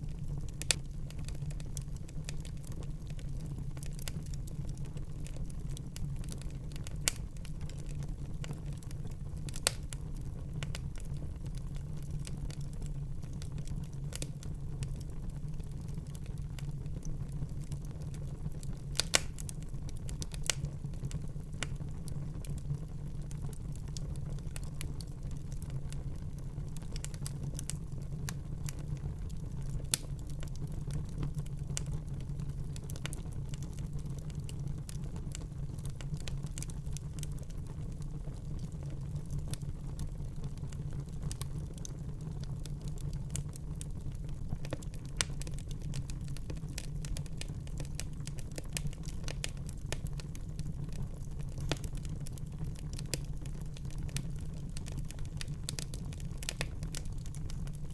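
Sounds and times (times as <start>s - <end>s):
wood fire burning and crackling: 0.0s - 57.9s.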